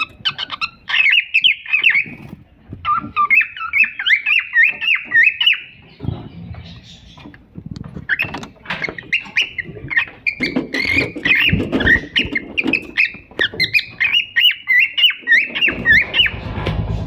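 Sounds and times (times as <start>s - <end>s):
cockatiels chirping: 0.0s - 17.0s
scratching and rustling: 0.0s - 17.0s.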